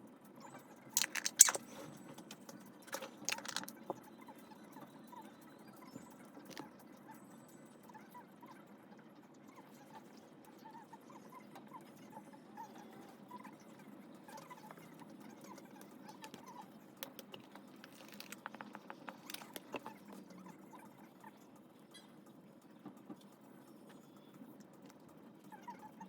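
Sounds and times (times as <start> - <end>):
faint pattering and clicking: 0.1 - 26.0.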